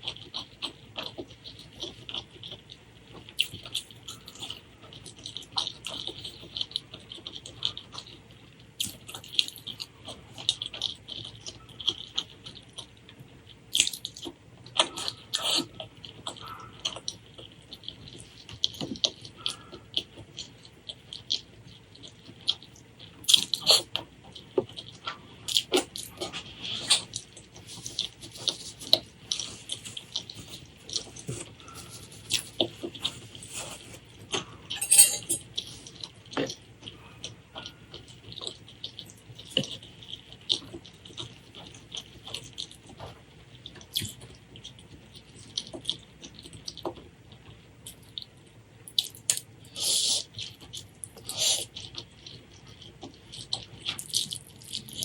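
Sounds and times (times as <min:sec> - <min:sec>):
wet chewing and mouth smacking: 0:00.0 - 0:55.0.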